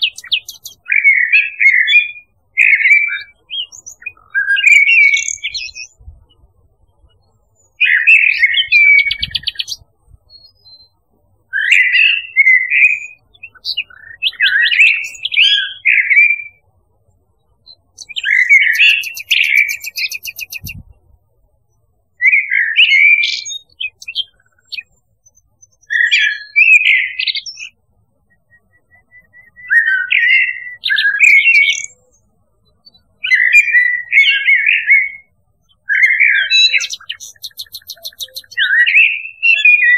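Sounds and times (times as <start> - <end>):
songbird warbling: 0.0 - 6.4, 7.0 - 9.8, 11.5 - 16.6, 17.7 - 20.9, 22.2 - 32.0, 33.0 - 39.9.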